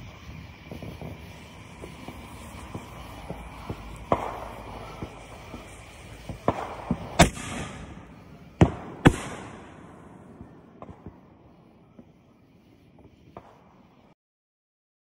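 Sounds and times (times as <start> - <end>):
fireworks bangs: 0.0 - 14.2
fireworks pops: 0.0 - 14.2.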